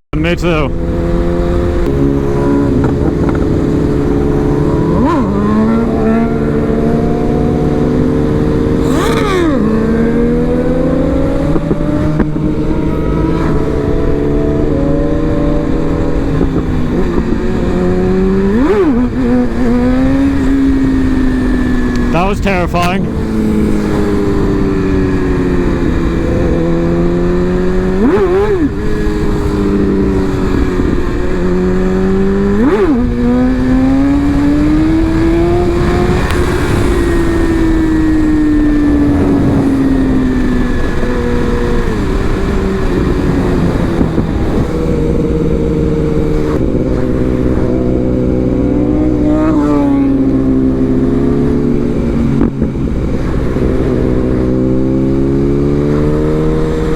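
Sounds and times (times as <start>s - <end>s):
motorcycle engine revving: 0.3s - 56.9s
wind rush: 0.5s - 56.9s.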